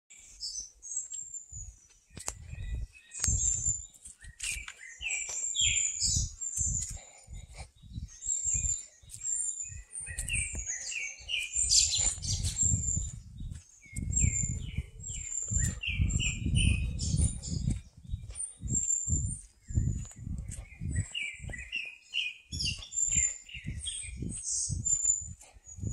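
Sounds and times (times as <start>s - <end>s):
songbirds chirping: 0.1s - 25.9s.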